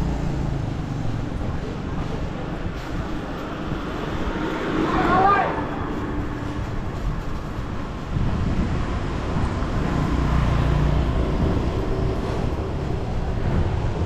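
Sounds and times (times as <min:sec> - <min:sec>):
wind rumble on microphone: 0:00.1 - 0:14.0.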